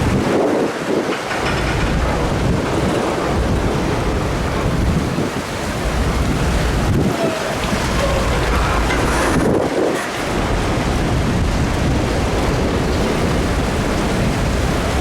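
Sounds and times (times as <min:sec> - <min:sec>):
rush of displaced water: 0:00.0 - 0:15.0
train rolling through water: 0:00.0 - 0:15.0
wind buffeting microphone: 0:00.0 - 0:15.0.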